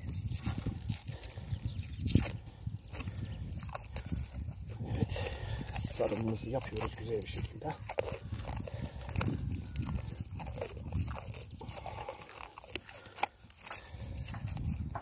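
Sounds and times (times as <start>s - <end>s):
plastic stretch film crinkling: 0.0s - 15.0s.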